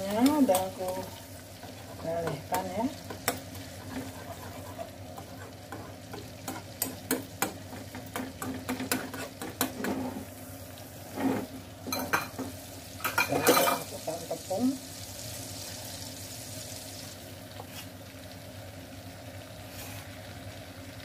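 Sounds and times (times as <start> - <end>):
butter sizzling: 0.0 - 21.0.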